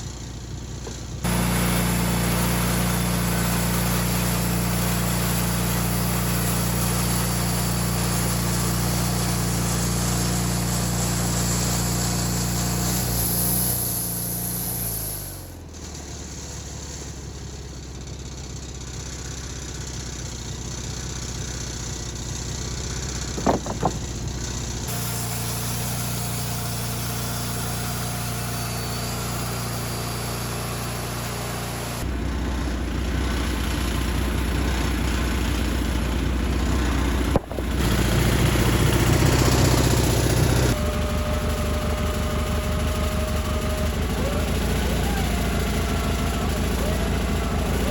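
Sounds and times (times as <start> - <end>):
engine running at low speed: 0.0 - 47.9.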